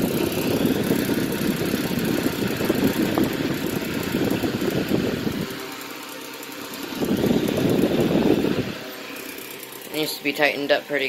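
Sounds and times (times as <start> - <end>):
table fan rattling: 0.0 - 11.0.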